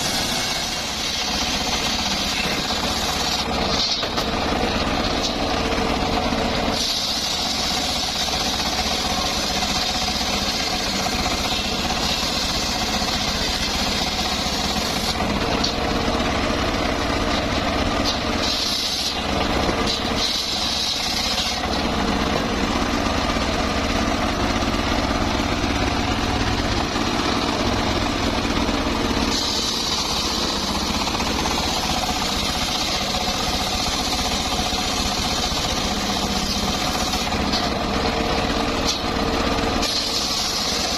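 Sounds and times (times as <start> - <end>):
saw blade hissing through wood: 0.0 - 16.6, 17.2 - 23.3, 24.4 - 37.7, 39.7 - 40.9
sawmill engine running: 0.0 - 40.9.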